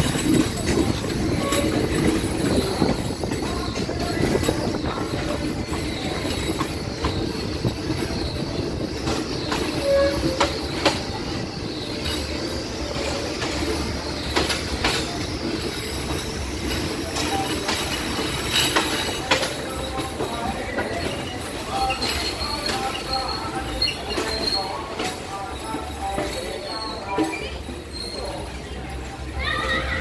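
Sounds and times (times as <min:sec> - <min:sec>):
wheels clicking over rail joints: 0:00.0 - 0:29.6
train carriage rumbling: 0:00.0 - 0:30.0
wheel squeals: 0:00.0 - 0:30.0.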